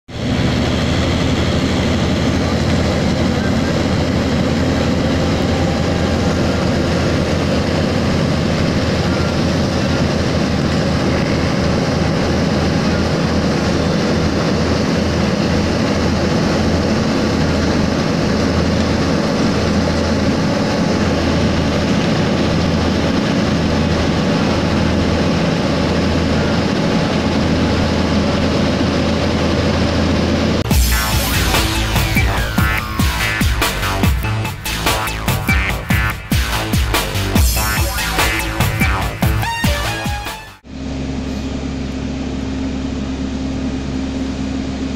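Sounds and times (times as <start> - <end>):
heavy diesel engine rumbling: 0.0 - 44.9.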